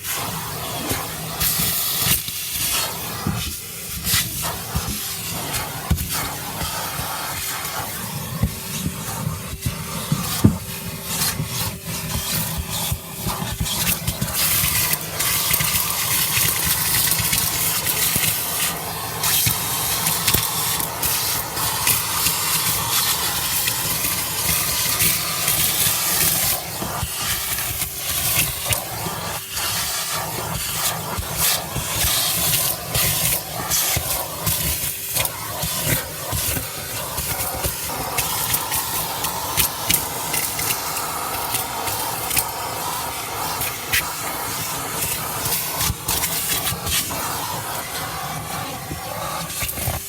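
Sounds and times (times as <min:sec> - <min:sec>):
vacuum cleaner suction hiss: 0:00.0 - 0:50.0.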